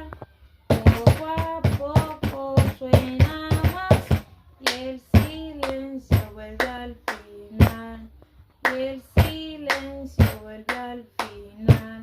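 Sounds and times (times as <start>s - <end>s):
body percussion claps and slaps: 0.7s - 8.0s, 8.6s - 12.0s.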